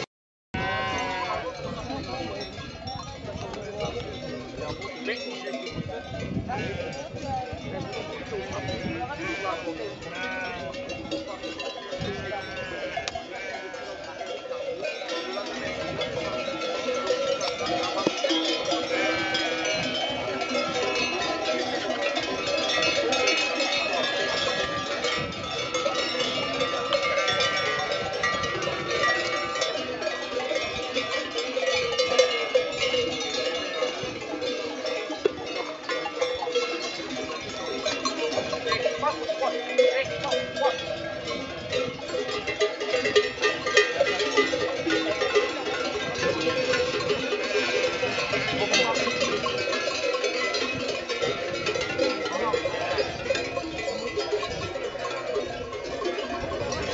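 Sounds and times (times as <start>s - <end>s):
sheep bells clanking: 0.0s - 56.9s.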